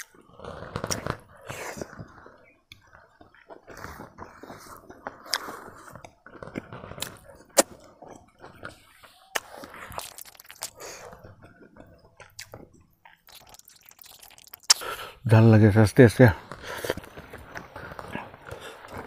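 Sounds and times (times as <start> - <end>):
man chewing food: 0.0 - 15.2, 16.4 - 19.0
mouth clicks and smacks: 0.0 - 15.3.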